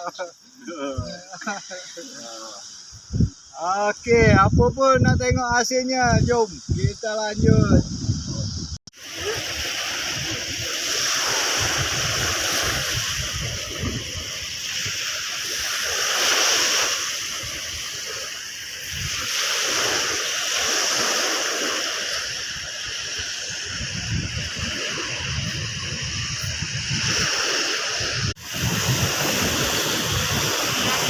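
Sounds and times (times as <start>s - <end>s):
sea surf washing onto beach: 0.0s - 31.0s.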